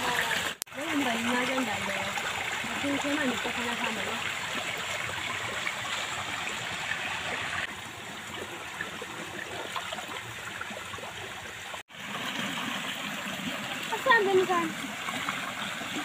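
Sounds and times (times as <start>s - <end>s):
bucket filling with water: 0.0s - 16.0s
stream running over rocks: 0.0s - 16.0s.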